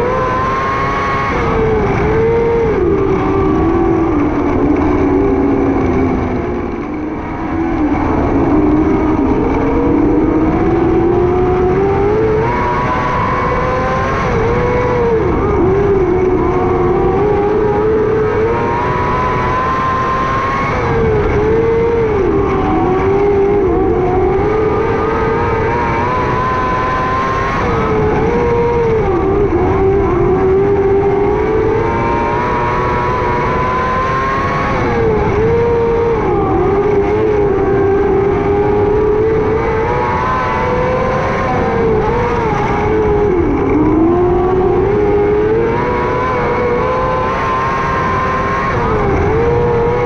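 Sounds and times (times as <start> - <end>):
racing motorcycle engine: 0.0 - 50.0.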